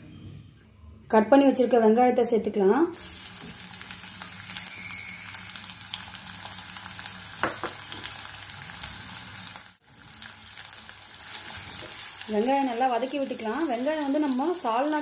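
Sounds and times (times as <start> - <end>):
onions sizzling in hot oil: 2.9 - 15.0.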